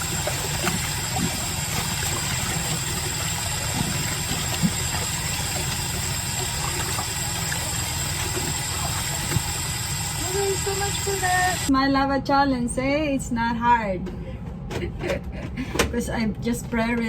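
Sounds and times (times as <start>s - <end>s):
laundry room rumble and hiss: 0.0s - 17.0s.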